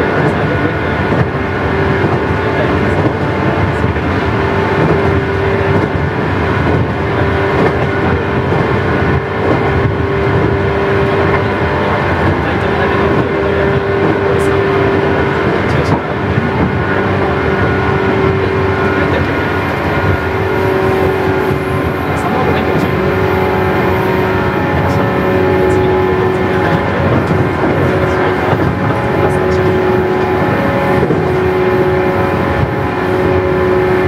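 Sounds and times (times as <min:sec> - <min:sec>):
traction motor hum: 0:00.0 - 0:34.0
train wheels rumbling on rails: 0:00.0 - 0:34.0.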